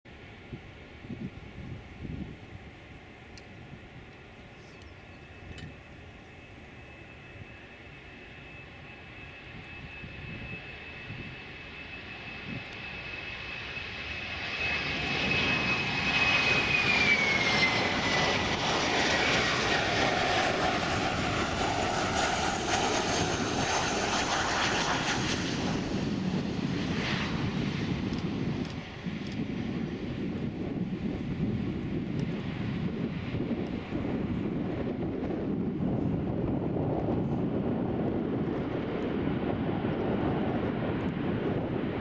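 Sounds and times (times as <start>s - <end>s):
jet engines on approach: 0.1s - 42.0s.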